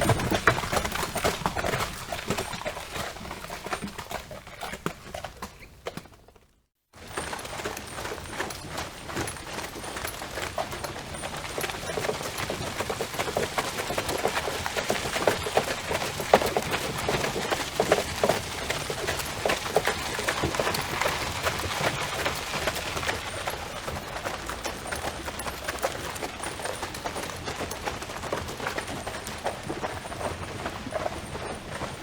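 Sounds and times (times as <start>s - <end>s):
horse hooves clip-clopping: 0.0s - 32.0s.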